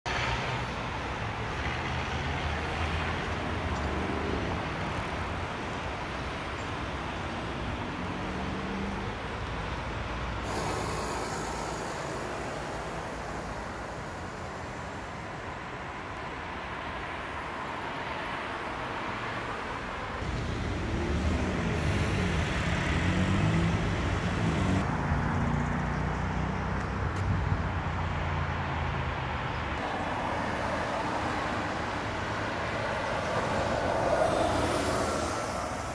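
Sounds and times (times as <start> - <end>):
cars passing: 0.1 - 35.9.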